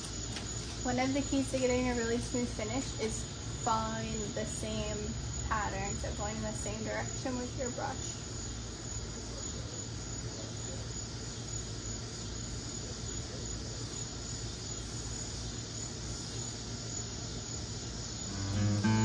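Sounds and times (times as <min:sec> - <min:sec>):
faint low hum: 0:00.0 - 0:17.2, 0:18.2 - 0:19.0
background hiss: 0:00.0 - 0:19.0.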